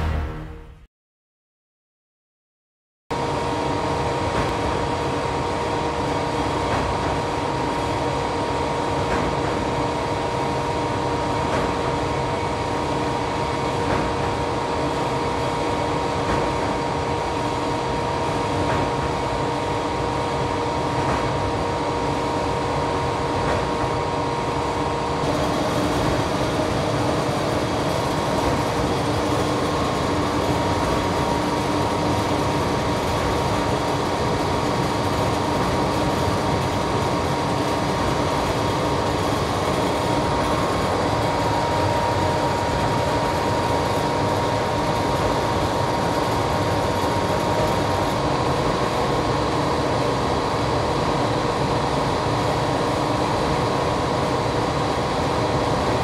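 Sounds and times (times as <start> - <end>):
machine hum: 3.2 - 56.0.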